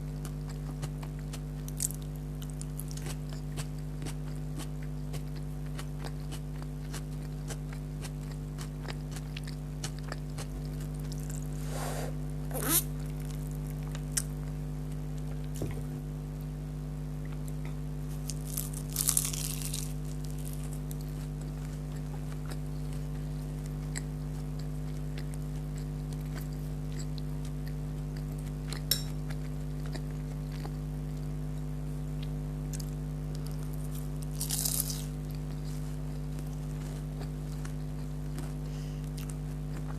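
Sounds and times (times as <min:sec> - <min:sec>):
chewing and crunching food: 0:00.0 - 0:11.6, 0:12.5 - 0:15.8, 0:17.2 - 0:39.9
steady electrical hum: 0:00.0 - 0:39.9.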